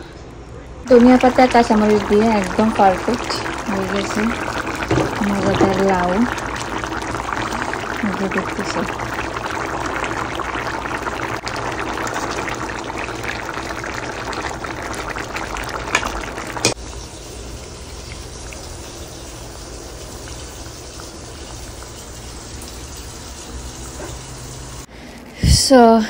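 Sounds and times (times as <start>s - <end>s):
curry bubbling and sizzling: 0.8s - 25.3s.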